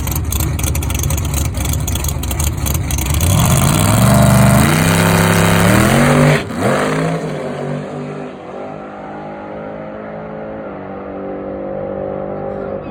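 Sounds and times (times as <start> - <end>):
car engine at high revs: 0.0 - 12.9.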